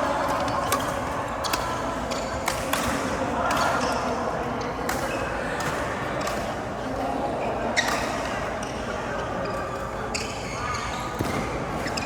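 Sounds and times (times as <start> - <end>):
background chatter: 0.0 - 12.0.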